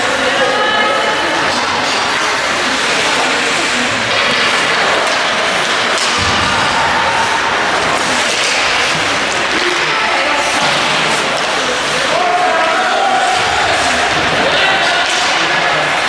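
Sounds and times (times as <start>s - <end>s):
skating and play on ice: 0.0s - 16.0s.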